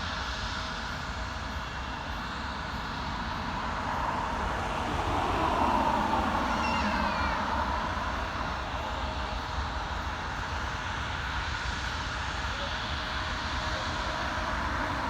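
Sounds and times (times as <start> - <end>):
jet airliner engines rushing: 0.0 - 15.0.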